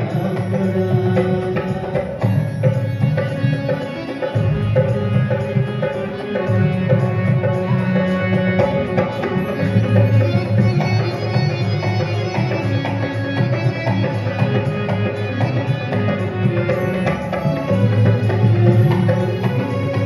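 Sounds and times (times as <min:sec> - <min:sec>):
keyboard sitar-like melody: 0:00.0 - 0:20.0
tabla-style drum beat: 0:00.0 - 0:20.0.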